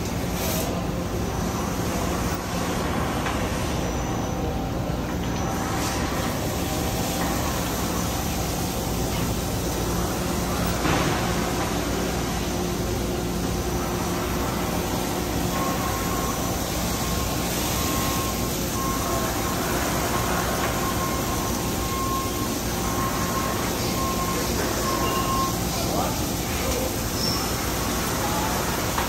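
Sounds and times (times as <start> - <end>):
machine mechanical hum: 0.0 - 29.0
thin steady whine: 0.0 - 29.0.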